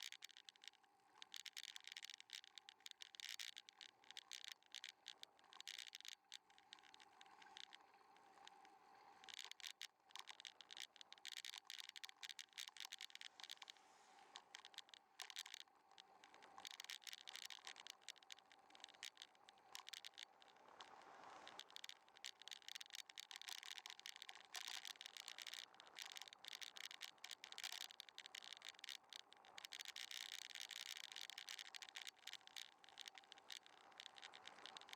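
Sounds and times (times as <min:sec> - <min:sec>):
bicycle rattling on road: 0:03.9 - 0:34.9.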